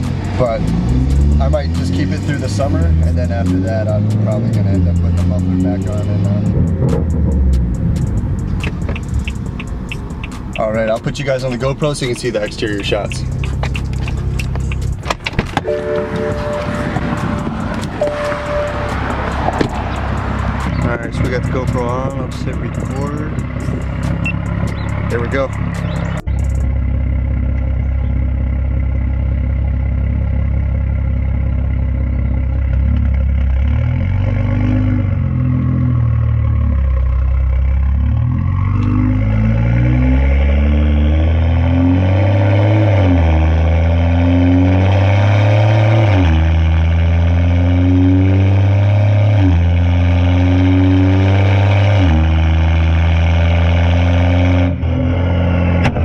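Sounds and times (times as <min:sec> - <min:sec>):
loud car engine accelerating: 0:00.0 - 0:56.0.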